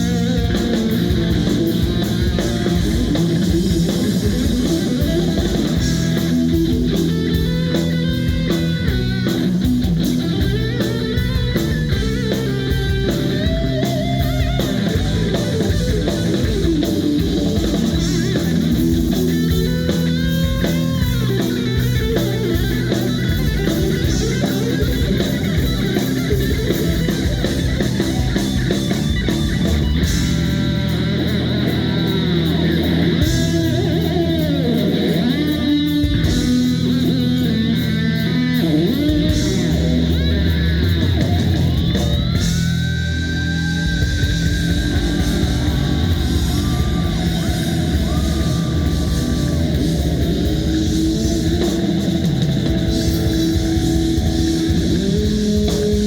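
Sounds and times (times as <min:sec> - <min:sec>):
bass: 0:00.0 - 0:56.0
drum kit beat: 0:00.0 - 0:56.0
lead guitar bending notes: 0:00.0 - 0:56.0.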